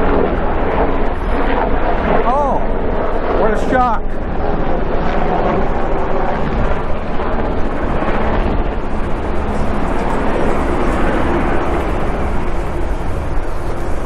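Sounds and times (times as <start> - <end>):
helicopter rotor drone: 0.0 - 14.0.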